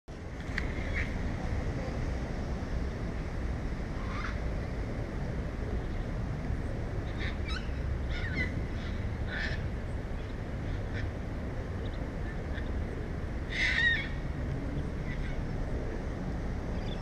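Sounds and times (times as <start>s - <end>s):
steady low rumble: 0.1s - 17.0s.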